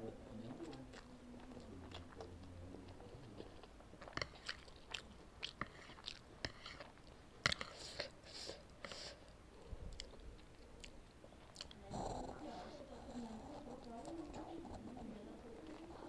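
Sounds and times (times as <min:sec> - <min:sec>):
chewing noodles with mouth clicks: 0:00.2 - 0:16.0.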